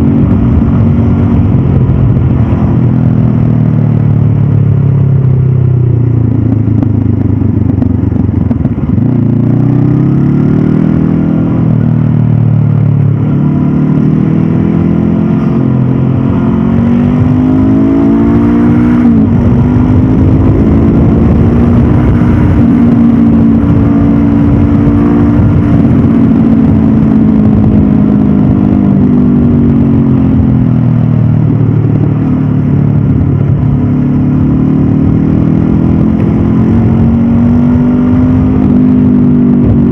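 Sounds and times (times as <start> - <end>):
motorcycle engine pulling along: 0.0 - 39.9.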